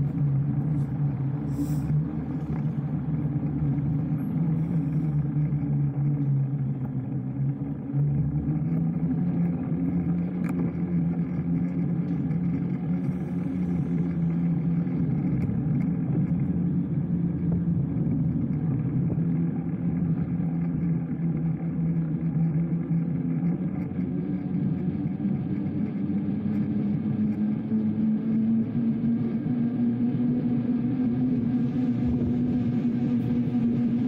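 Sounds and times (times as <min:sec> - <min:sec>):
motorbike droning hum: 0:00.0 - 0:34.0.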